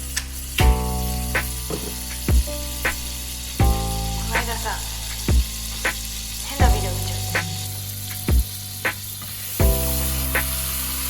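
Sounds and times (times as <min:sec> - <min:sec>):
food sizzling in a frying pan: 0:00.0 - 0:11.0
slow beat background music: 0:00.0 - 0:11.0.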